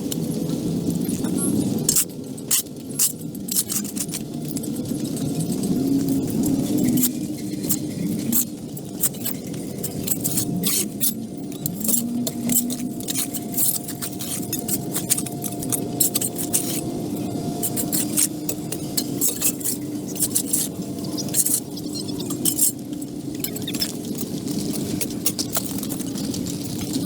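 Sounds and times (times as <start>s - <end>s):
hard objects clinking and scraping: 0.1s - 27.0s.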